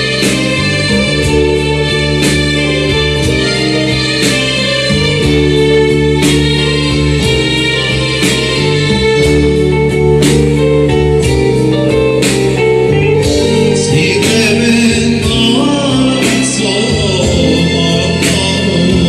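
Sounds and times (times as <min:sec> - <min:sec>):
electronic drums: 0:00.0 - 0:19.0
keyboard melody: 0:00.0 - 0:19.0
live band playing: 0:00.0 - 0:19.0.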